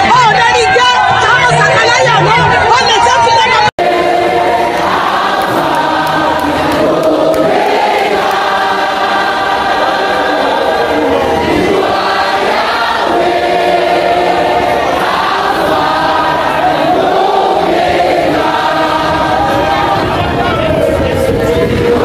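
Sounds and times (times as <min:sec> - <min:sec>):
large crowd singing in unison: 0:00.0 - 0:22.0.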